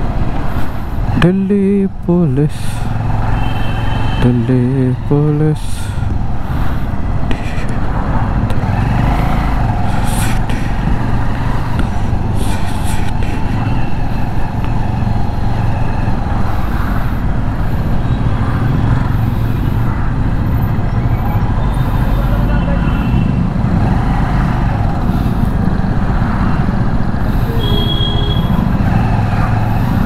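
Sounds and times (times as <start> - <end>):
traffic passing: 0.0 - 30.0.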